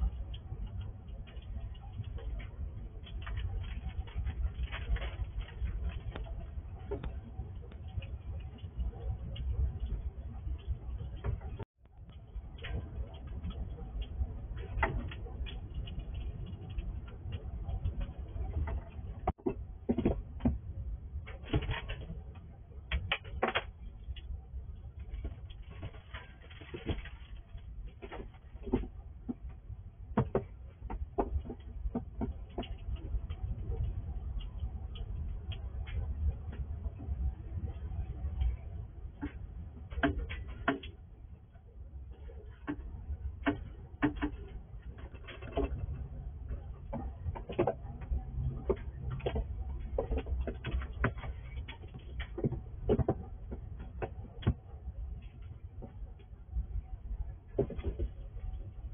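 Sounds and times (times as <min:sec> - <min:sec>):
low background hum: 0:00.0 - 0:58.9.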